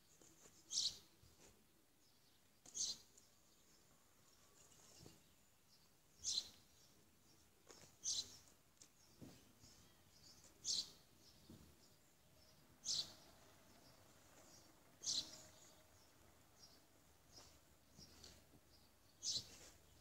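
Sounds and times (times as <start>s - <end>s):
faint low background noise: 0.0s - 20.0s.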